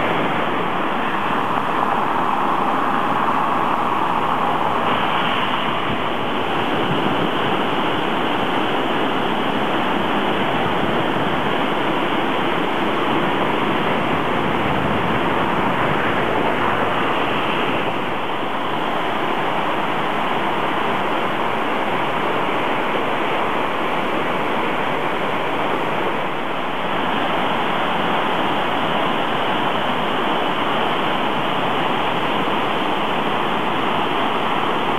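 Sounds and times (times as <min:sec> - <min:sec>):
flooded stream rushing: 0:00.0 - 0:34.9.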